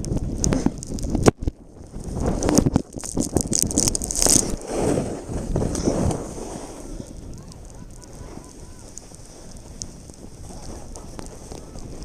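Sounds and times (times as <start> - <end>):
hissing snowboard carve: 0.0 - 12.0
wind buffeting microphone: 0.0 - 12.0
snowboard edges scraping snow: 0.3 - 12.0.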